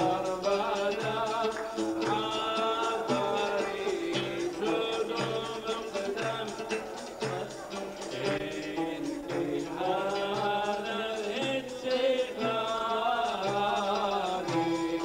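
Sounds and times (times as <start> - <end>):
hand drum beat: 0.0 - 15.0
man singing into microphone: 0.0 - 15.0
ouds playing: 0.0 - 15.0.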